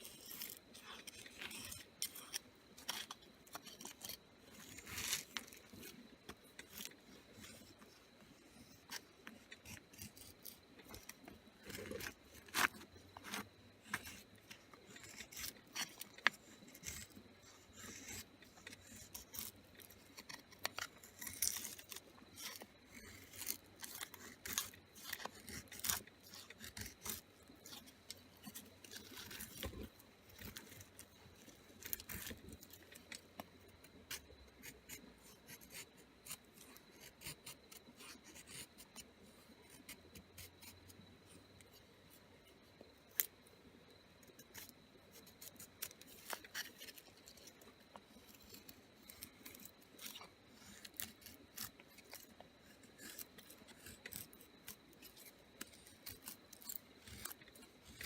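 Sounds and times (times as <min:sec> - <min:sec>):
knife scraping wood: 0:00.0 - 0:43.3, 0:44.2 - 0:58.0.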